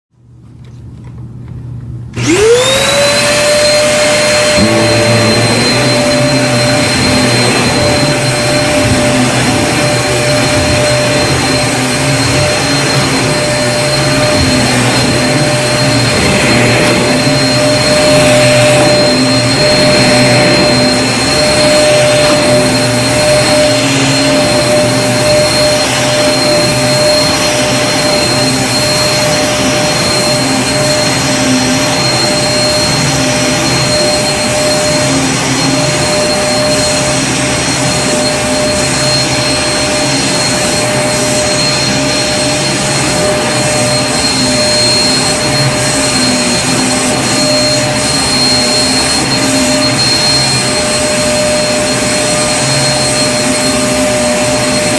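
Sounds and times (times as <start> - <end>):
vacuum cleaner motor whine: 2.1 - 54.9.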